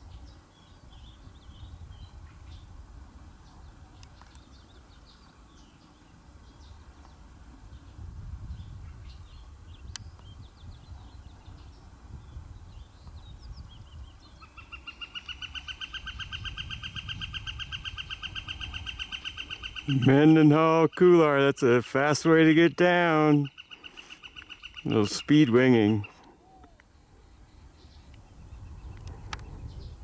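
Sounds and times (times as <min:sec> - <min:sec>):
low wind rumble: 0:00.0 - 0:21.0, 0:25.9 - 0:30.0.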